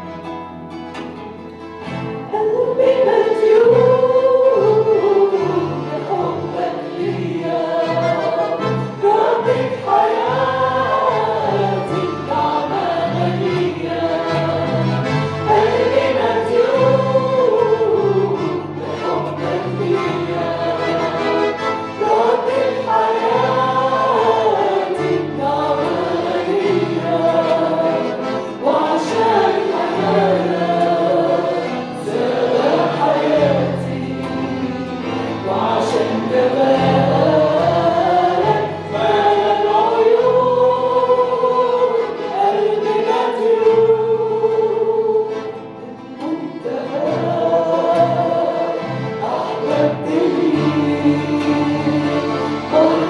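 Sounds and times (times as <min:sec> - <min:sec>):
instrumental accompaniment with bass notes: 0:00.0 - 0:53.0
group singing a hymn: 0:01.8 - 0:53.0.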